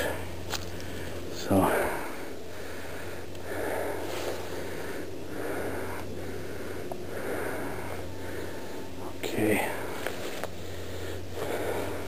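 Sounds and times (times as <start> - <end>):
person breathing hard: 0.7 - 9.0, 9.6 - 12.0.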